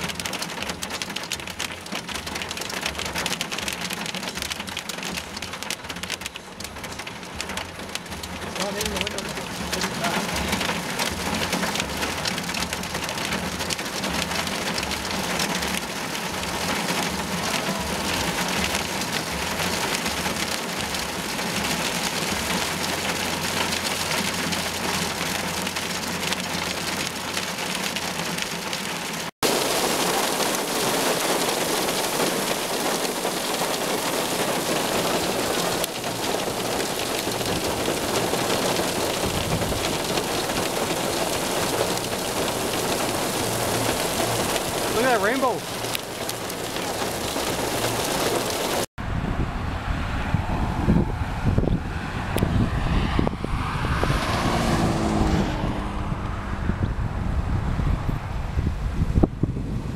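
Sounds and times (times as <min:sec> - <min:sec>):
heavy rain on a vehicle: 0:00.0 - 0:49.0, 0:52.8 - 0:56.0.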